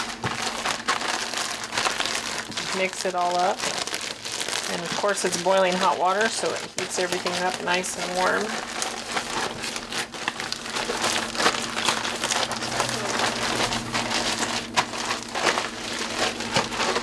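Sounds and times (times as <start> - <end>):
chips crunching: 0.0 - 17.0
plastic bag crinkling: 0.0 - 17.0.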